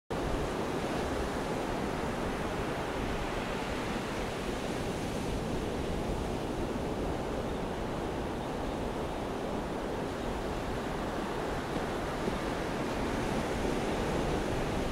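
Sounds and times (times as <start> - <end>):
surf breaking on a beach: 0.2 - 14.9.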